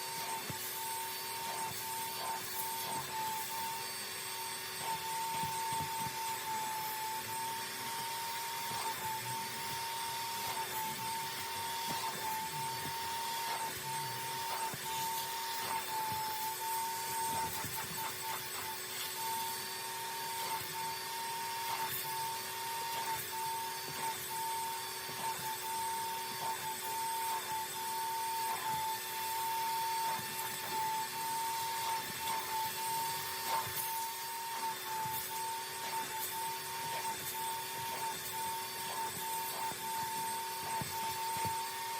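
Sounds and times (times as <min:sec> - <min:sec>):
vacuum motor whining: 0:00.0 - 0:41.9.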